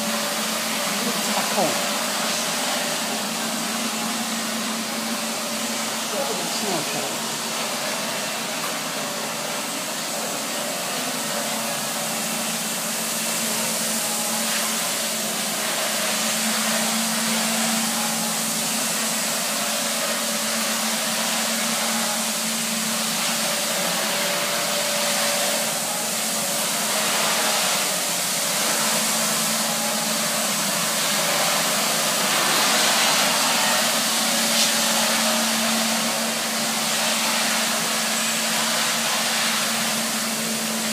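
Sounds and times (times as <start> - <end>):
scrubber dryer running: 0.0 - 40.9.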